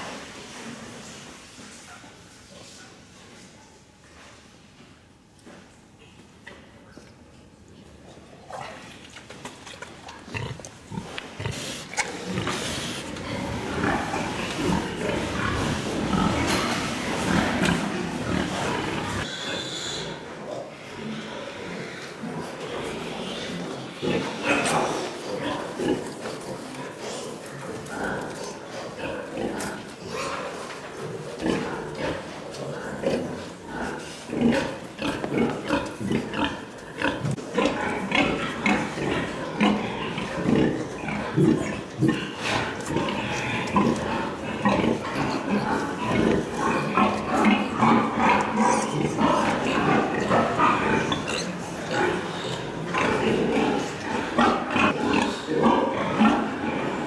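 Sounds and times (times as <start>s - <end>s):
pigs grunting: 10.0s - 57.0s.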